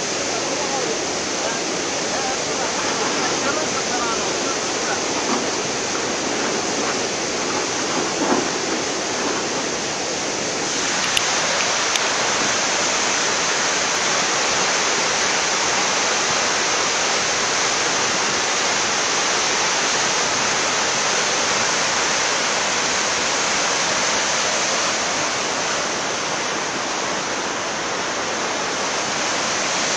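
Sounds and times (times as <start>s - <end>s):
floodwater rushing: 0.0s - 29.9s.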